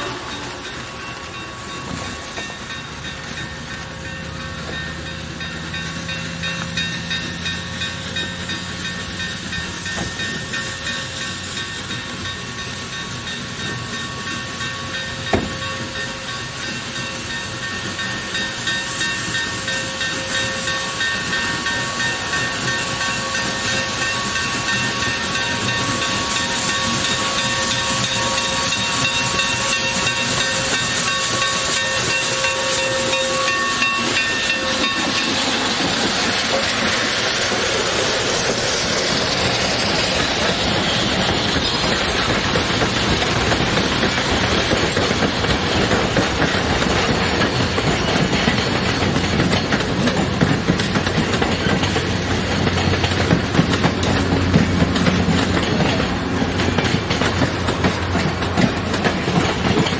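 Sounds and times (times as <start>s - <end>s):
locomotive exhaust beating: 0.0s - 59.9s
steam locomotive hissing steam: 0.0s - 59.9s.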